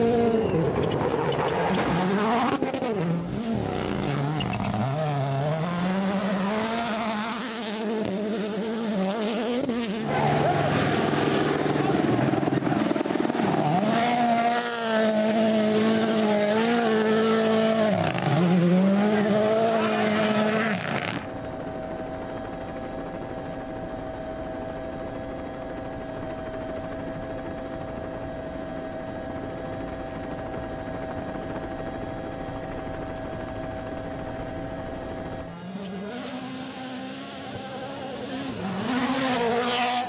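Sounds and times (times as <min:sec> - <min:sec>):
faint high whine: 0:00.0 - 0:40.0
rally car engine at full throttle: 0:00.0 - 0:40.0
steady droning hum: 0:02.9 - 0:40.0.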